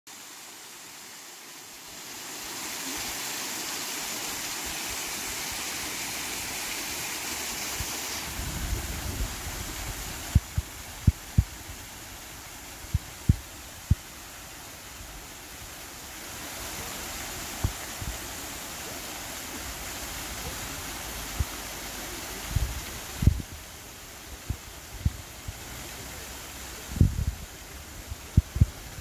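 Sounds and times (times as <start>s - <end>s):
stream splashing: 0.1s - 23.5s.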